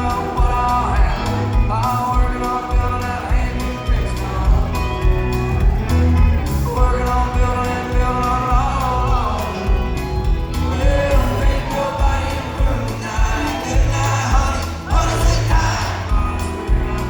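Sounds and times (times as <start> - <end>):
country band playing: 0.0 - 17.0
guitar: 0.0 - 17.0
person singing: 0.0 - 17.0
steady drum beat: 0.0 - 17.0.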